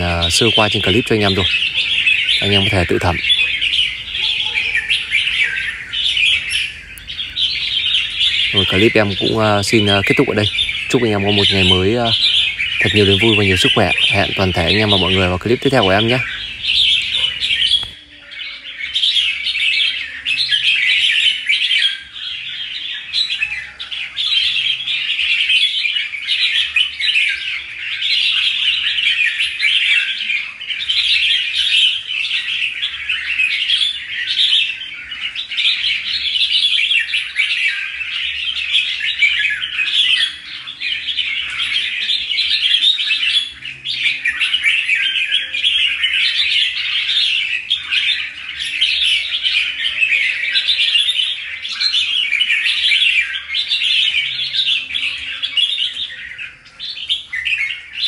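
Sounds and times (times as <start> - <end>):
bird chirping and chattering: 0.0 - 58.0.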